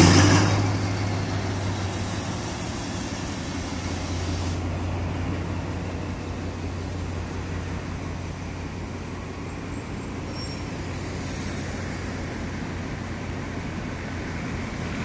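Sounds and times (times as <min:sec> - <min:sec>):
locomotive engine humming: 0:00.0 - 0:15.0
road traffic: 0:00.0 - 0:15.0.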